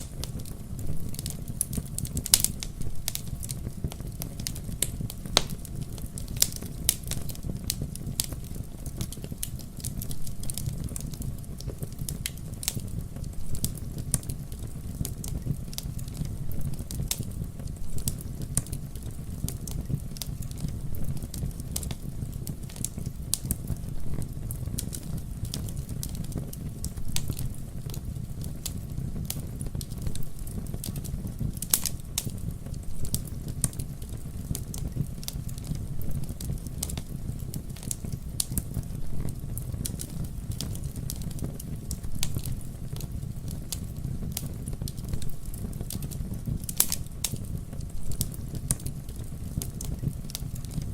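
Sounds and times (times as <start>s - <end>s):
sharp pops and snaps: 0.0s - 23.9s, 24.6s - 50.9s
campfire crackling: 0.0s - 50.9s.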